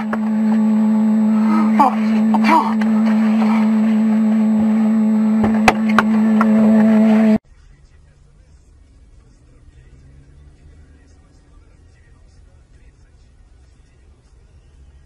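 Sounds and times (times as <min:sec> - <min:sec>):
road noise: 0:00.0 - 0:15.0
vehicle drone: 0:00.0 - 0:15.0.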